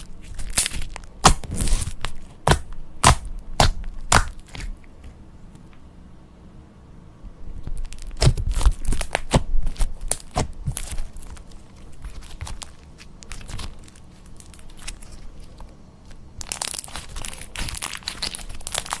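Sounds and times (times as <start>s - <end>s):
slime crackling and crunching: 0.0s - 4.8s, 7.8s - 15.6s, 16.4s - 19.0s.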